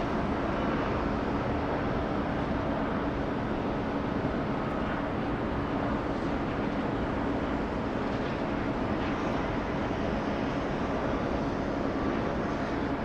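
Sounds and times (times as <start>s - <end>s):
jet engine rumble and hiss: 0.0s - 13.0s.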